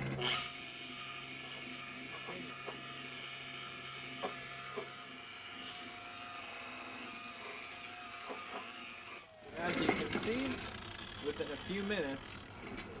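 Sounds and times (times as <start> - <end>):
rotary polisher whirring: 0.0 - 13.0.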